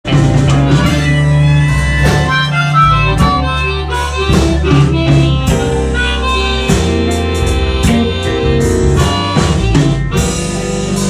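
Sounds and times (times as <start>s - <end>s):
live blues band playing: 0.0s - 11.0s
sharp drum strokes: 0.1s - 11.0s.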